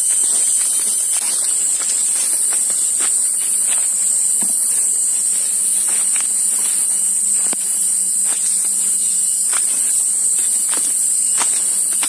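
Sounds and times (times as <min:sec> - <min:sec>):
brushing through undergrowth: 0:00.0 - 0:12.0
footsteps crunching on dry leaves: 0:00.0 - 0:12.0
insects droning: 0:00.0 - 0:12.0.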